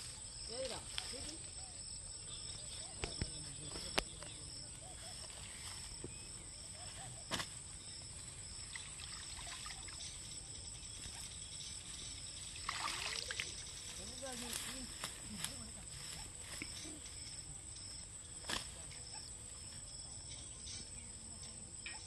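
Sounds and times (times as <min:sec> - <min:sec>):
crickets chirring: 0:00.0 - 0:22.0
faint outdoor noise: 0:00.0 - 0:22.0.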